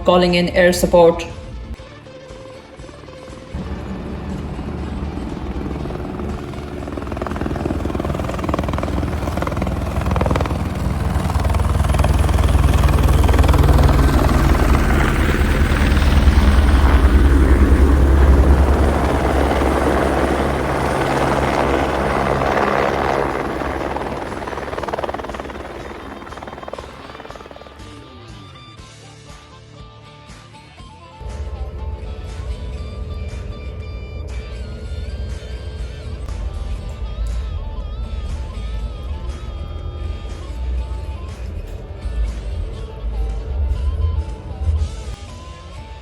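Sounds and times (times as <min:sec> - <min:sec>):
helicopter rotor chop and engine: 0:02.6 - 0:28.8, 0:31.2 - 0:45.9.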